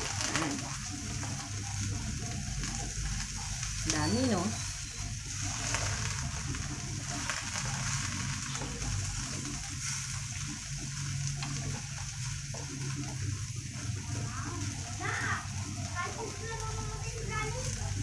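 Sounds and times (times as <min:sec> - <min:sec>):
oil sizzling in a wok: 0:00.0 - 0:18.0.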